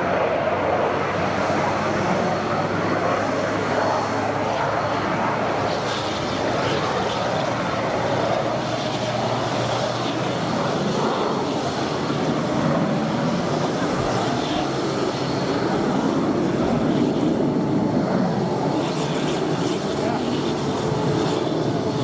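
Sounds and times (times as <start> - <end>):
jet engine noise: 0.0 - 22.0.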